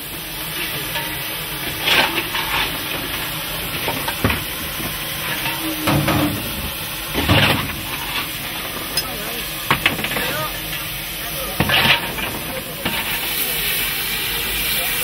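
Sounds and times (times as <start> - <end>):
steam locomotive hissing: 0.0 - 15.0
metallic clanks: 0.2 - 10.8, 11.4 - 13.4.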